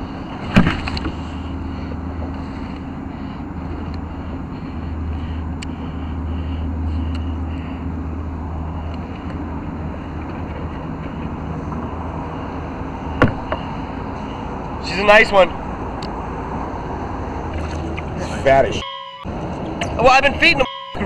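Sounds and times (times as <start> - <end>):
motorboat engine drone: 0.0 - 21.0.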